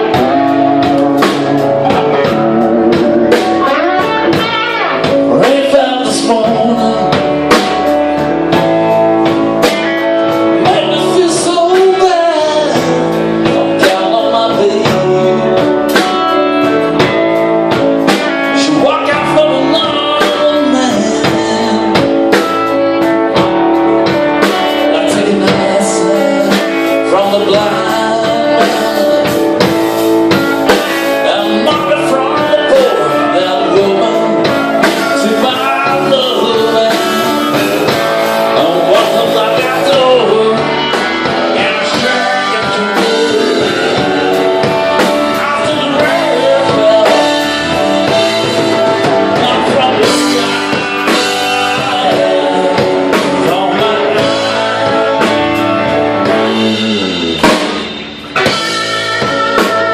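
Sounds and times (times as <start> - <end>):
person singing: 0.0 - 17.2, 18.0 - 57.6
live blues band playing: 0.0 - 59.9.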